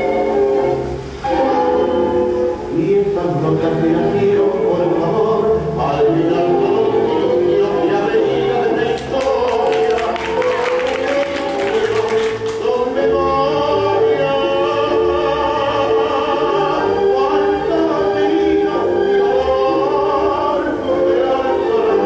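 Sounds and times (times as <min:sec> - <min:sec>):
tango song with band: 0:00.0 - 0:22.0.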